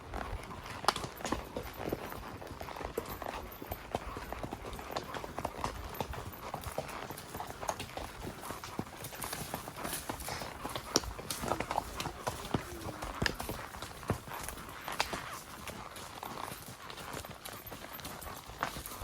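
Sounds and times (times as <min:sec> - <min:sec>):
horse hooves clip-clopping: 0:00.0 - 0:19.0.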